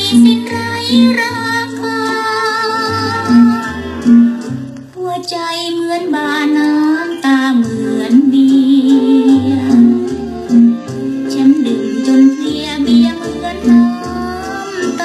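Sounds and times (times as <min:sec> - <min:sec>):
woman singing: 0:00.0 - 0:04.0, 0:05.0 - 0:15.0
backing band with bass and guitar: 0:00.0 - 0:05.0, 0:07.2 - 0:15.0.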